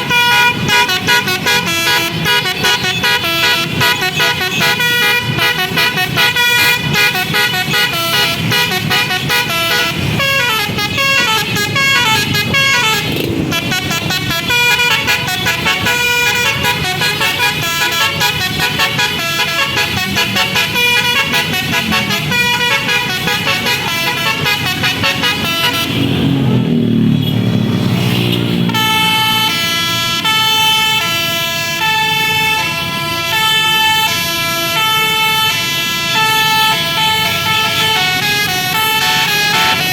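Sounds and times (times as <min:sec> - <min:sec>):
multi-tone bus horn melodies: 0:00.0 - 0:27.5, 0:28.3 - 0:39.9.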